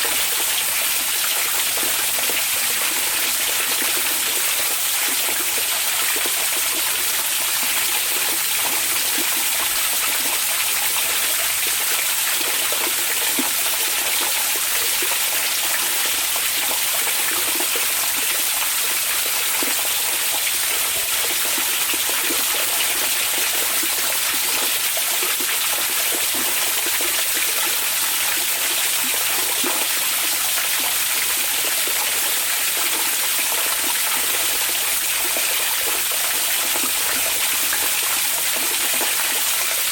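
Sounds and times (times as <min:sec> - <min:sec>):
hot spring water running: 0:00.0 - 0:39.9.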